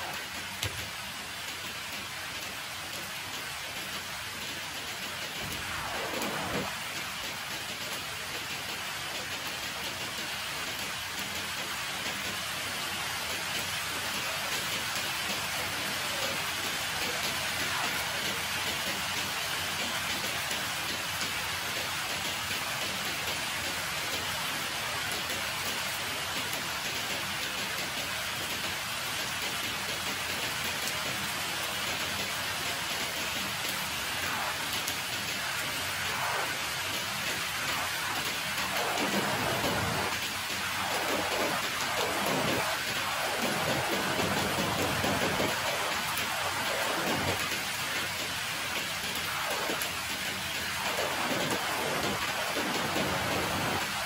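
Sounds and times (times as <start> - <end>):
rain on concrete: 0.0 - 54.0.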